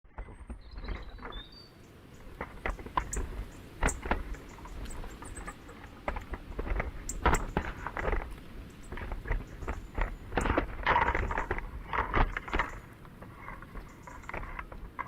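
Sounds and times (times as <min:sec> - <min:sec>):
animals tapping at feeder: 0:00.1 - 0:15.0
low outdoor rumble: 0:00.1 - 0:15.0.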